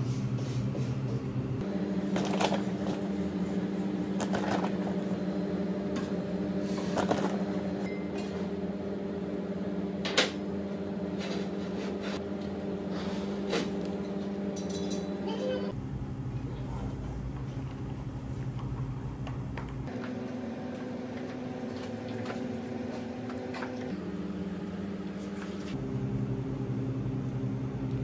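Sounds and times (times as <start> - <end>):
kitchen appliance humming: 0.0 - 28.0.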